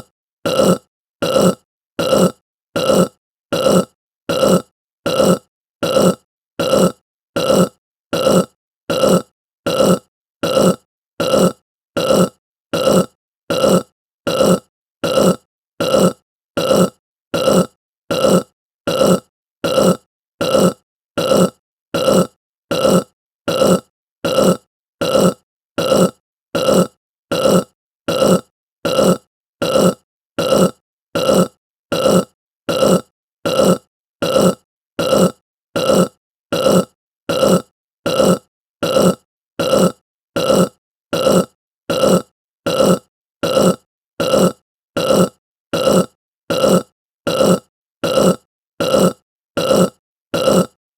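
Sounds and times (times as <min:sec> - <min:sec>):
person burping: 0:00.0 - 0:50.8.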